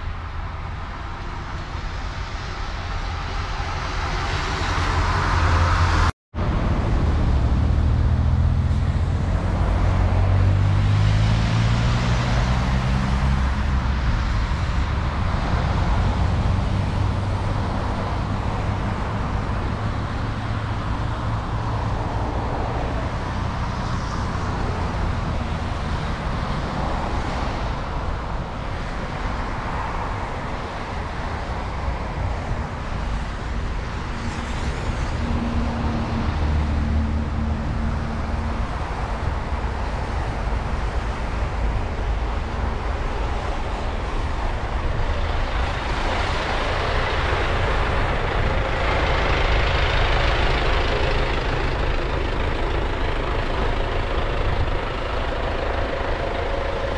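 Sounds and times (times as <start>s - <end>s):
road traffic rumble: 0.0s - 56.9s
vehicle engine accelerating: 2.8s - 27.4s, 34.0s - 56.9s.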